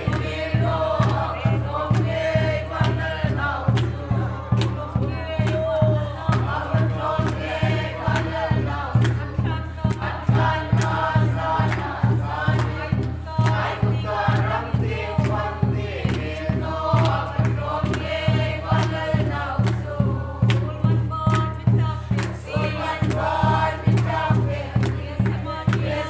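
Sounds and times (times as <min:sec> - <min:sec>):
group singing a hymn: 0:00.0 - 0:26.0
large drum beating: 0:00.0 - 0:26.0.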